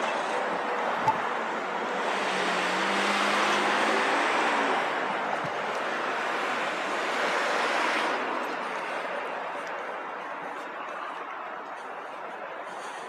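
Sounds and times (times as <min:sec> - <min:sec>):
street traffic: 0:00.0 - 0:13.0
vehicle passing by: 0:00.2 - 0:13.0.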